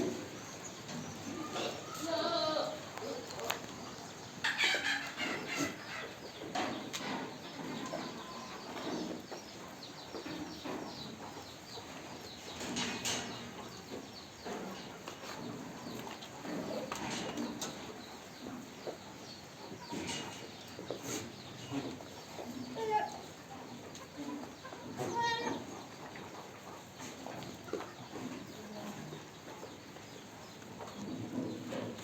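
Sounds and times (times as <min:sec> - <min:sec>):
poultry clucking: 0:00.0 - 0:32.0.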